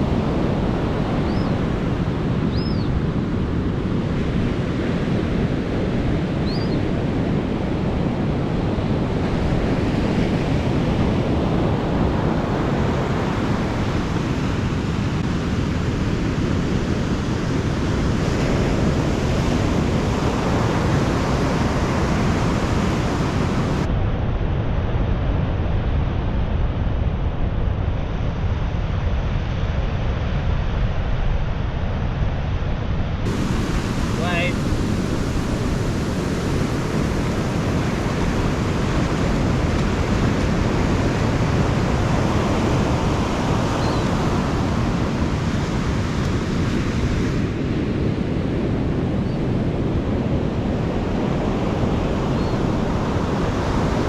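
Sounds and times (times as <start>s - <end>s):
waves breaking on beach: 0.0s - 23.9s, 33.3s - 54.0s
wind buffeting microphone: 0.0s - 54.0s.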